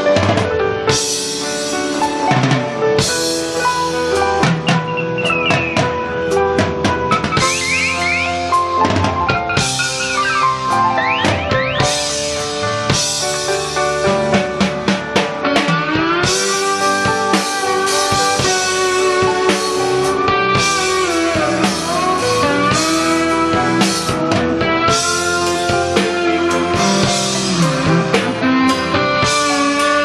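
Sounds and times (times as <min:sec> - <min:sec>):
drum kit: 0:00.0 - 0:30.0
electric slide guitar: 0:00.0 - 0:30.0
organ chords: 0:00.0 - 0:30.0.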